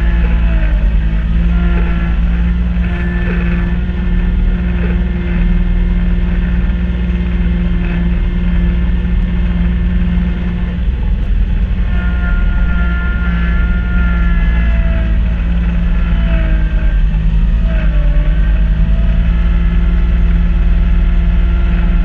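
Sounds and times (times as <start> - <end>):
high-pitched whine: 0.0 - 22.0
tractor diesel engine running: 0.0 - 22.0.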